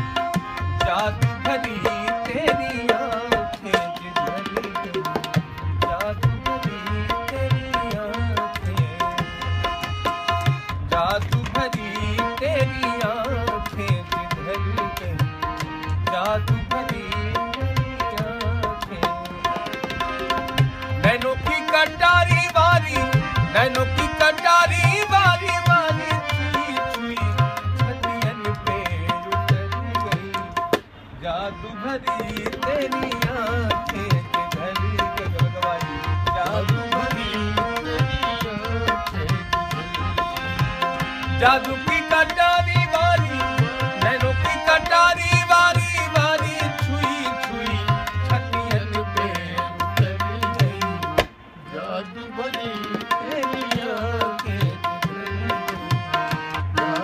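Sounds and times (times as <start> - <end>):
harmonium melody: 0.0 - 57.0
tabla rhythm: 0.0 - 57.0.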